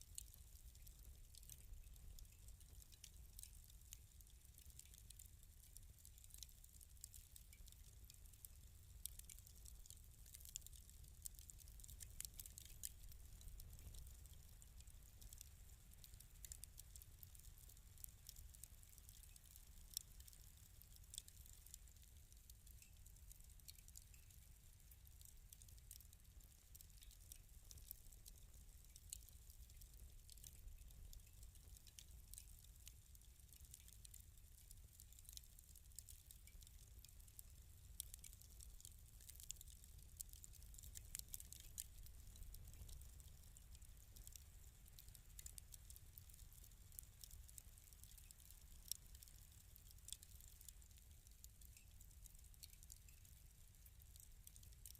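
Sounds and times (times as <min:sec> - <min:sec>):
faint wood fire crackling: 0:00.0 - 0:54.9.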